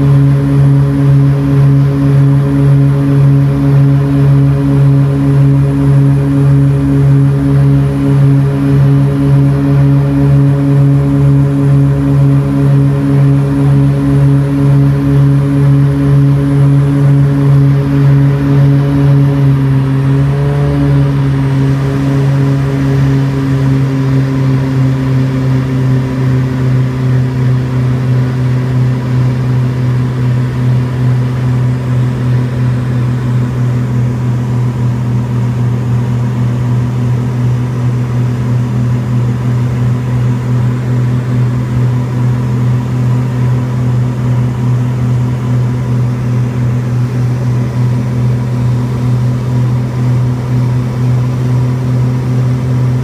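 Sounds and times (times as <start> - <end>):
turboprop engines droning: 0.0 - 53.0.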